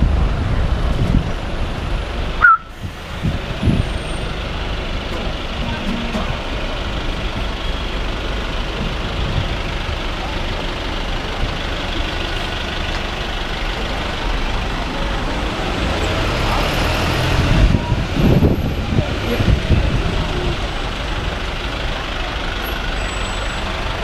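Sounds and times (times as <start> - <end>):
heavy vehicle engines idling: 0.0 - 24.0
low traffic rumble: 0.0 - 24.0.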